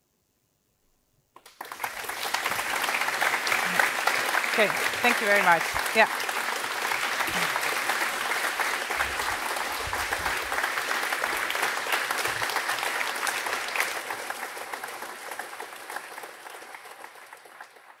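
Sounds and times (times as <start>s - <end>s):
audience applauding: 1.4s - 18.0s.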